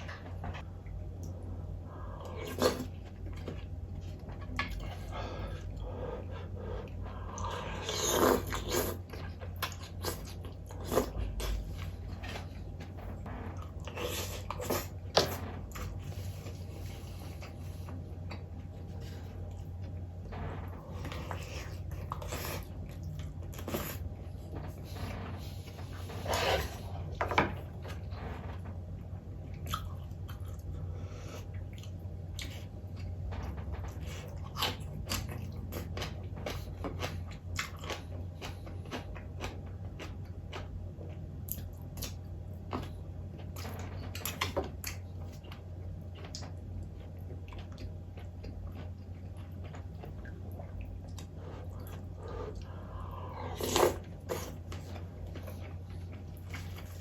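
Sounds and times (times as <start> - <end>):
person chewing food: 0.0 - 28.2, 29.5 - 57.0
steady low hum: 0.0 - 57.0.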